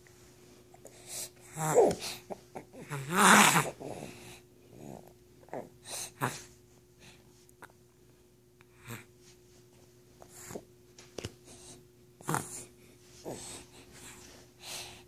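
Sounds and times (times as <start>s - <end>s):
soft breaths: 0.0s - 2.9s, 3.7s - 7.7s, 8.6s - 15.0s.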